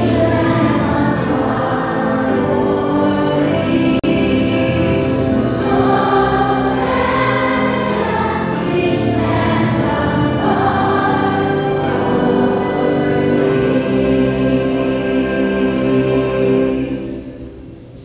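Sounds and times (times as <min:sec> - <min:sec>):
choir singing: 0:00.0 - 0:17.7.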